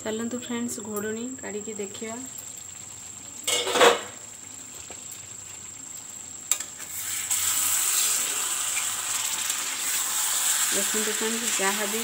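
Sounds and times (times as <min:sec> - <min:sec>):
curry sizzling: 0:00.0 - 0:12.0.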